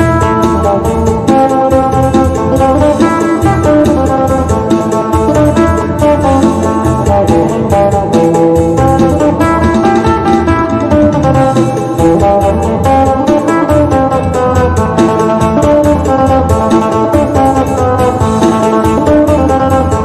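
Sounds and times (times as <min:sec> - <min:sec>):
plucked lute melody: 0:00.0 - 0:20.0.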